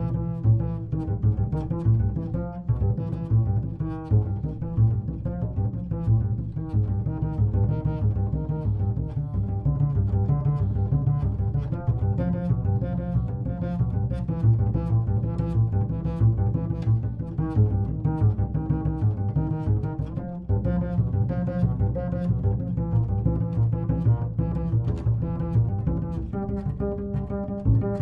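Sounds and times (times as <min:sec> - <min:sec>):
double bass plucked notes: 0:00.0 - 0:28.0.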